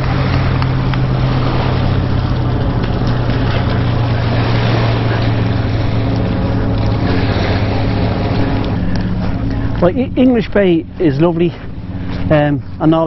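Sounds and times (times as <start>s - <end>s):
low motor-like drone: 0.0s - 13.0s.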